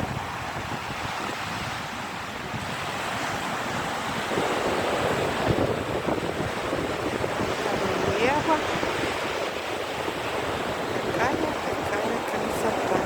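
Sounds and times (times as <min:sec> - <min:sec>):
surf breaking on beach: 0:00.0 - 0:13.0
wind rumbling on microphone: 0:00.0 - 0:13.0.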